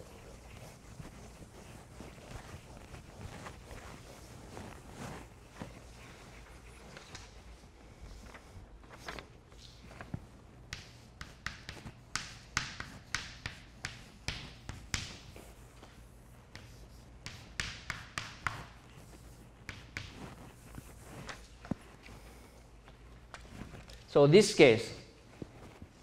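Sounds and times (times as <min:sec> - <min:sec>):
chalk tapping and scratching: 0:00.0 - 0:24.1.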